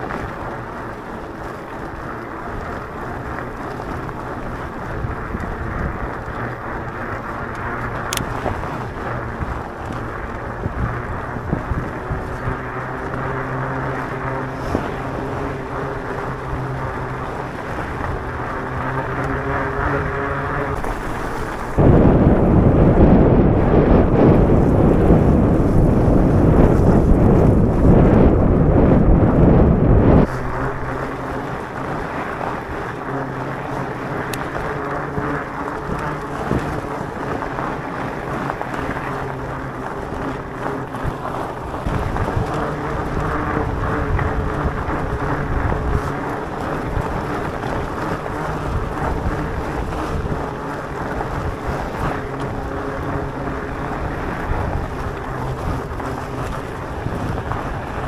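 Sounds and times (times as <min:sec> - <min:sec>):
bike tyres on gravel: 0:00.0 - 0:58.0
steady low hum: 0:00.0 - 0:58.0
wind on microphone: 0:00.0 - 0:58.0.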